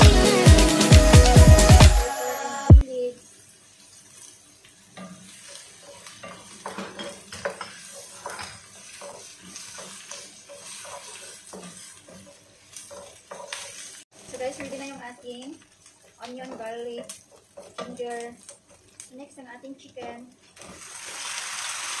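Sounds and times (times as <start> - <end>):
spatula scraping a wok: 2.8 - 19.1, 19.7 - 21.7
onions frying in oil: 2.8 - 22.0.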